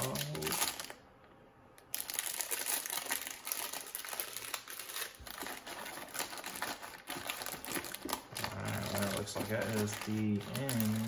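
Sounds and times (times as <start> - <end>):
plastic bags crinkling: 0.0 - 1.1, 1.8 - 11.0.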